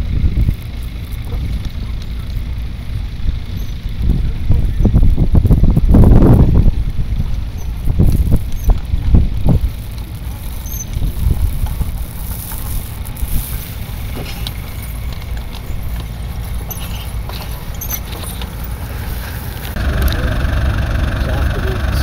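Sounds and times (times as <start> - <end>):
distant tractor engines: 0.0 - 22.0
low outdoor rumble: 0.0 - 22.0
tractor engine running close: 0.0 - 22.0
gusty thumps: 3.2 - 21.4.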